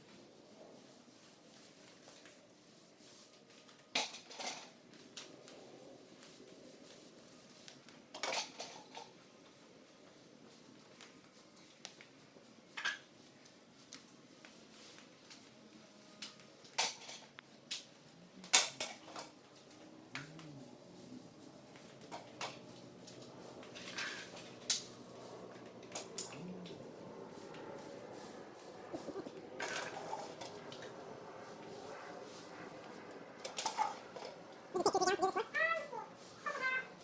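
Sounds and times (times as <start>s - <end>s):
paint roller on concrete floor: 0.0s - 37.0s.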